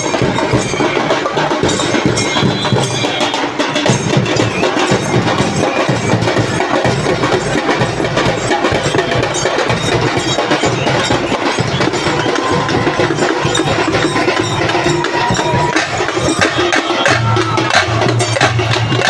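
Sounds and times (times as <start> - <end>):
marching drums fast beat: 0.0 - 19.0.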